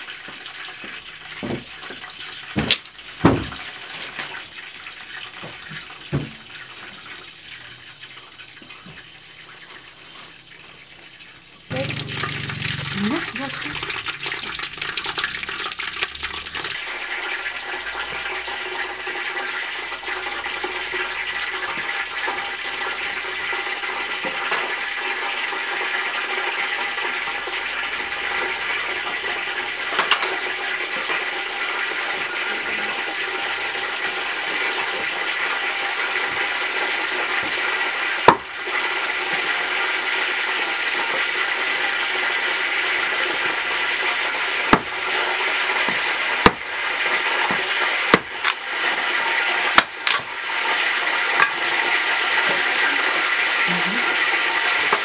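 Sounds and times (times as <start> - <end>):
cooking pot hissing over fire: 0.0 - 55.0.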